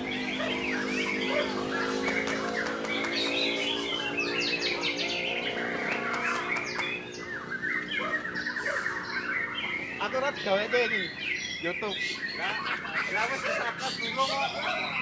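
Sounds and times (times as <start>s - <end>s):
bird singing chirps and trills: 0.0s - 15.0s.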